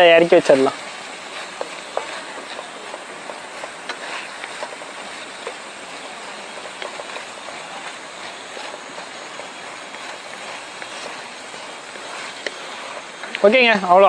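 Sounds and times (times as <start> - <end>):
sauce simmering with hiss and pops: 0.0 - 14.0.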